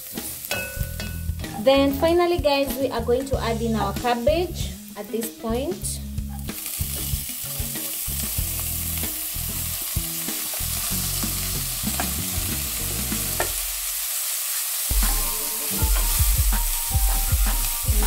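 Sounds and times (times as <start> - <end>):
cabbage sizzling in oil: 0.0 - 1.6, 2.6 - 18.0.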